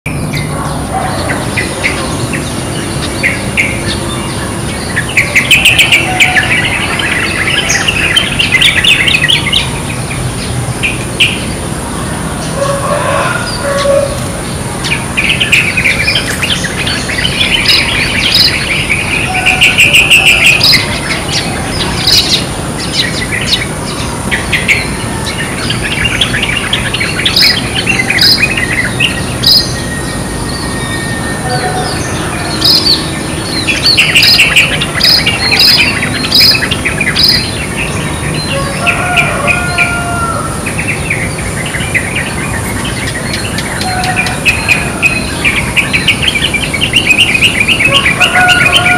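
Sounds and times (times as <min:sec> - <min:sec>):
bird chirping and chattering: 0:00.1 - 0:40.0, 0:40.7 - 0:48.9.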